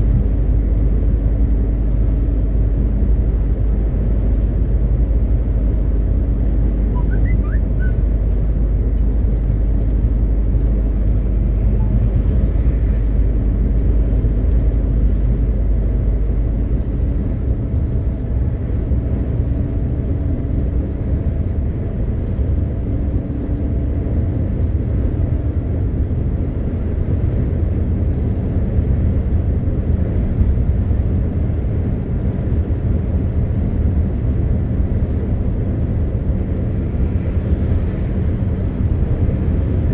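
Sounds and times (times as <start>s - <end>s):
road noise: 0.0s - 39.9s
truck diesel engine rumble: 0.0s - 39.9s.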